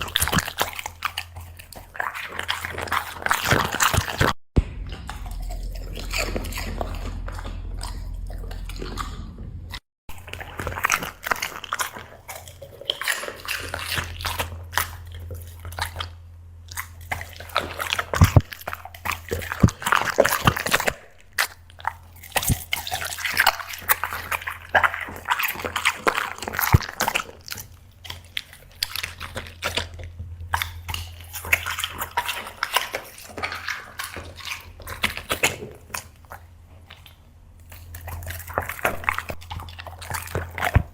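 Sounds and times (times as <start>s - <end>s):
low hum: 0.0s - 35.4s
dog chewing and crunching: 0.0s - 40.9s
wet smacking: 0.0s - 40.9s.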